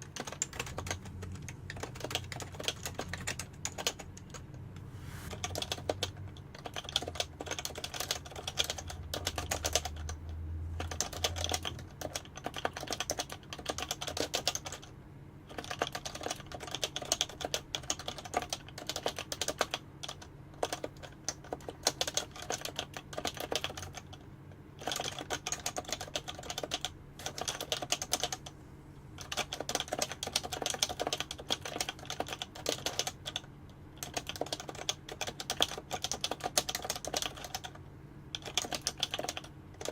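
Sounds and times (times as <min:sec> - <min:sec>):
fast keyboard typing: 0:00.0 - 0:04.7, 0:05.3 - 0:39.9.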